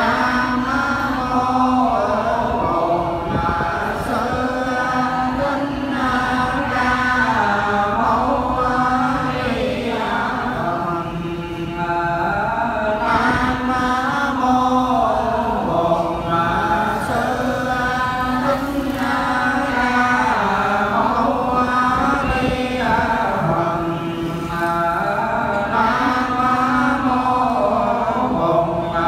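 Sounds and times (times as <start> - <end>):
monk chanting into microphone: 0.0 - 29.0.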